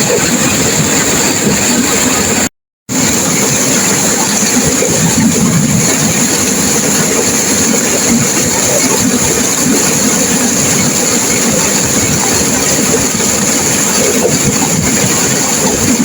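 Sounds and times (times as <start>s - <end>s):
river water rushing and crashing: 0.0s - 16.0s.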